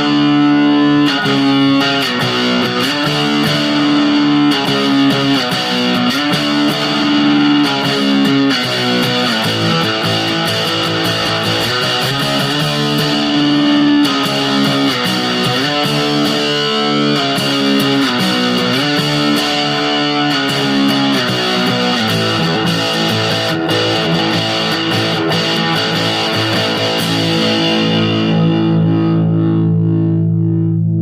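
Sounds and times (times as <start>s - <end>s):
distorted electric guitar: 0.0s - 31.0s.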